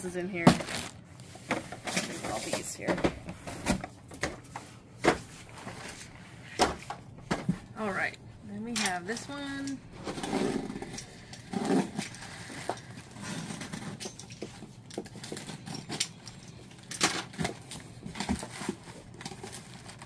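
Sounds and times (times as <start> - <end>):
packaging rustling and crinkling: 0.4 - 7.0, 10.0 - 20.0.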